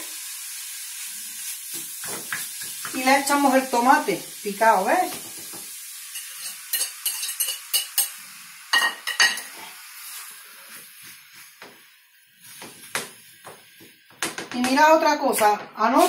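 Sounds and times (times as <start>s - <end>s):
meat and onion sizzling in pan: 0.0s - 16.0s.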